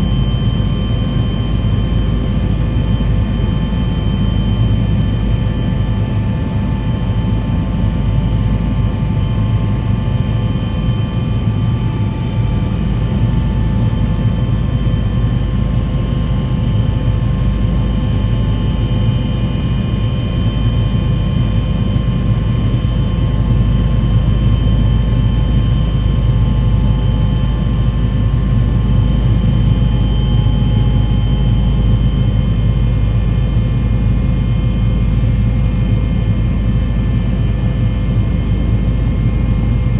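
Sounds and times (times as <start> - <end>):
mechanical drone with whine: 0.0 - 39.9.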